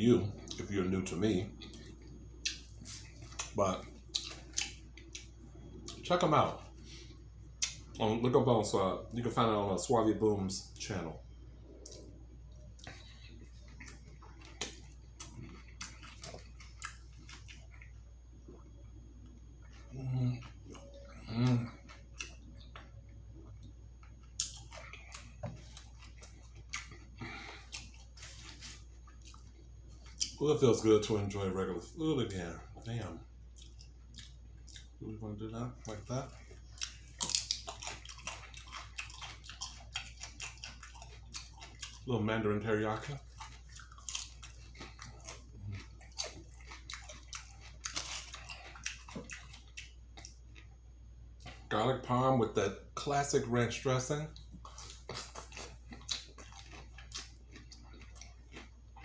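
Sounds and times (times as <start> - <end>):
mouth chewing food: 1.5 - 8.0, 11.6 - 31.4, 32.3 - 51.9, 54.3 - 59.0.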